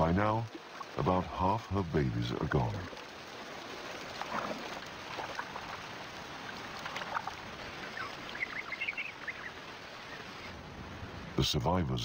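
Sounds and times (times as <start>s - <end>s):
river water splashing and lapping: 0.0s - 11.4s.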